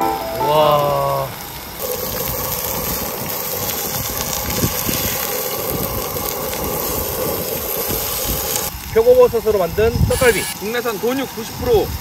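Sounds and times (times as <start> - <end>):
meat sizzling on a griddle: 0.2 - 12.0.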